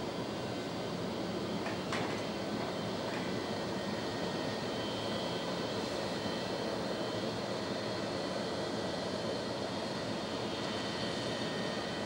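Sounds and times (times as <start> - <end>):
high-pitched engine whine: 0.0 - 12.0
jet engines rumbling: 0.0 - 12.0.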